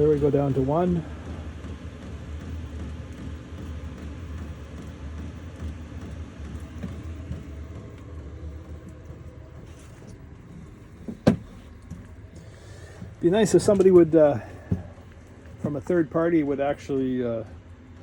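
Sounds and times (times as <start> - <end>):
heater fan humming: 0.0 - 18.0.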